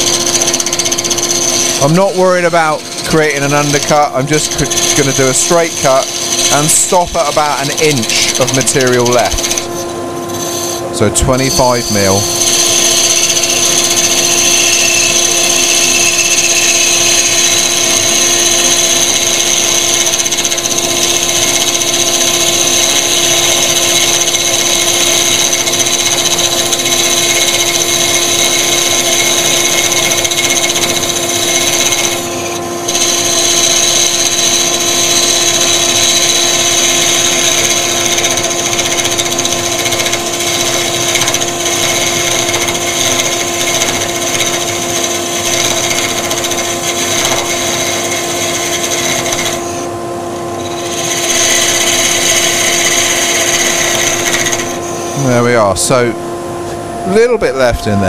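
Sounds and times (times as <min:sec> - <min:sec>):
lathe tool scraping wood: 0:00.0 - 0:55.6
dust extractor whine: 0:00.0 - 0:58.0.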